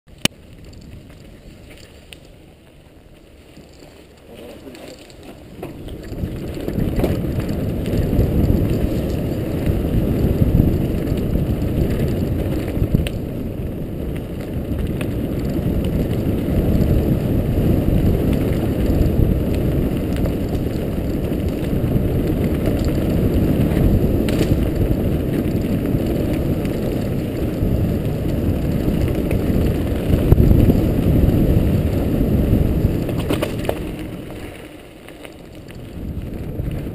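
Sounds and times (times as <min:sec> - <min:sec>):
bike rattling: 0:00.1 - 0:36.9
bike tyres rumbling on gravel: 0:00.1 - 0:36.9.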